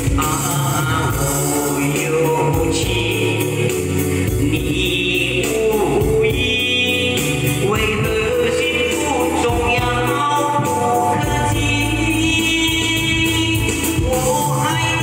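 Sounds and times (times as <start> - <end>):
electronic keyboard: 0.0 - 15.0
man singing into microphone: 0.0 - 15.0
steady drum beat: 0.0 - 15.0.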